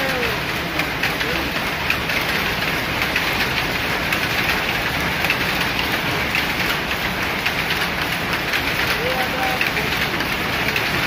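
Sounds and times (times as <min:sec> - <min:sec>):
power loom clattering: 0:00.0 - 0:11.0.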